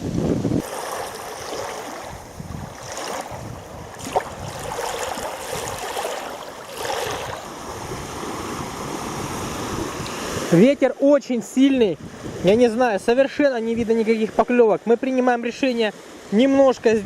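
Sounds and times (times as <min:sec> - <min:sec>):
waves splashing on shore: 0:00.0 - 0:17.0.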